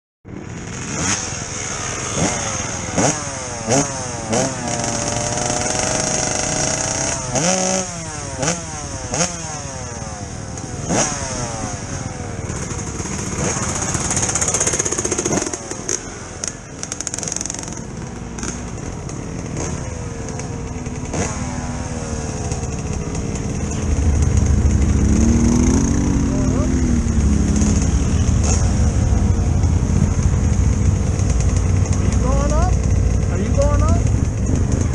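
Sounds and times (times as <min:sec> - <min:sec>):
dirt bike engines revving: 0:00.3 - 0:34.9.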